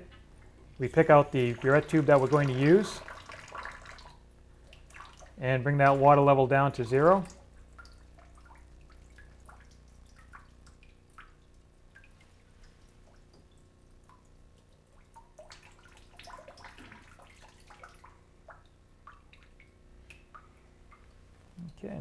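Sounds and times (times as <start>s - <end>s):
water dripping: 0.0s - 21.9s
steady low hum: 0.0s - 22.0s.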